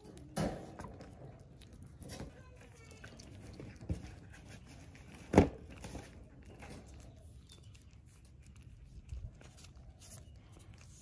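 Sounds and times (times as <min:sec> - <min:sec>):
kitten chewing and licking: 0:00.0 - 0:11.0.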